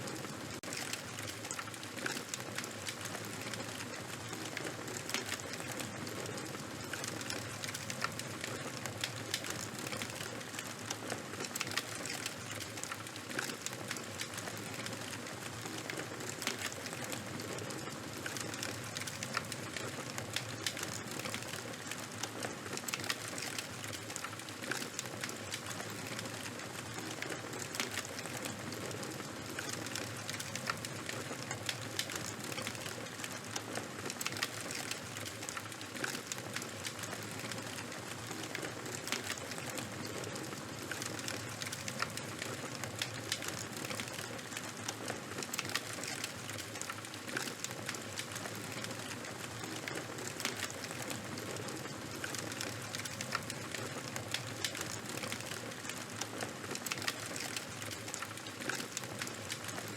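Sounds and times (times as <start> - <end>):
open fire crackling: 0.0 - 59.9.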